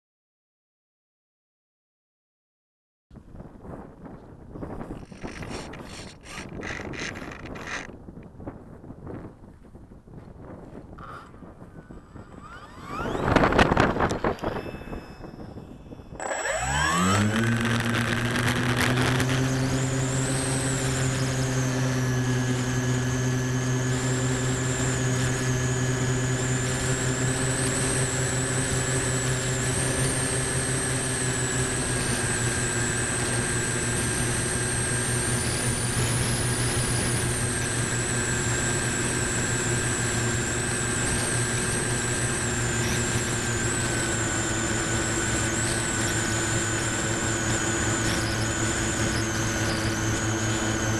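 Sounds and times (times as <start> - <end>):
electric motor and propeller whine: 3.6 - 8.4, 10.5 - 50.9.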